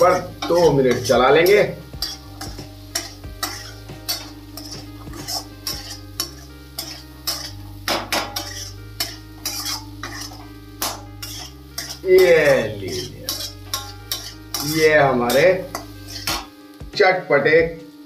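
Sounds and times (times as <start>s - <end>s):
spoon scraping and clinking pan: 0.0s - 16.5s
spoon stirring in a pan: 0.1s - 16.5s.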